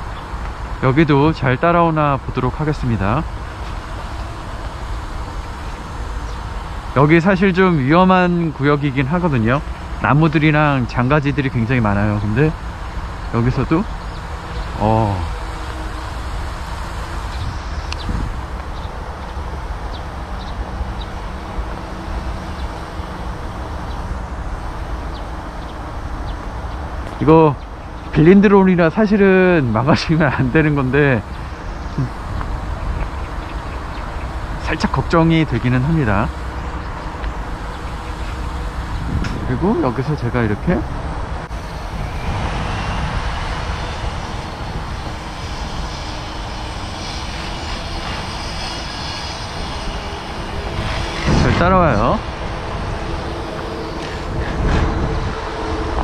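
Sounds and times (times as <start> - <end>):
drone propellers buzzing: 0.0 - 56.0
faint hum: 0.0 - 56.0
wind rumbling on microphone: 0.0 - 56.0.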